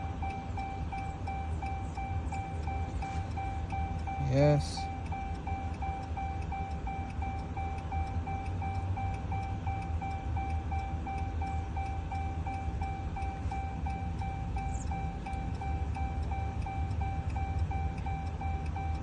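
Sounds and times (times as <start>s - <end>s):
electronic beep tone: 0.0s - 19.0s
low steady hum: 0.0s - 19.0s.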